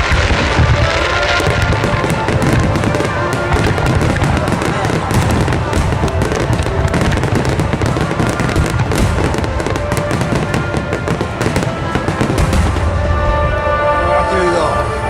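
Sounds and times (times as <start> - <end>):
fireworks crackling bangs: 0.0 - 14.6
music playing: 0.0 - 15.0.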